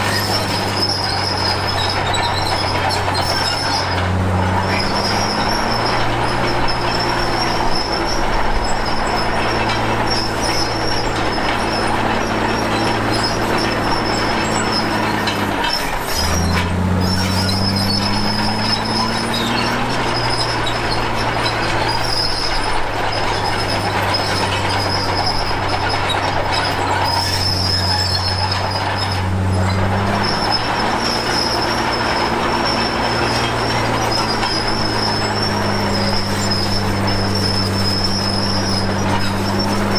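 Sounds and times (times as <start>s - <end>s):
bulldozer diesel engine: 0.0s - 39.9s
tracks squealing: 0.0s - 39.9s.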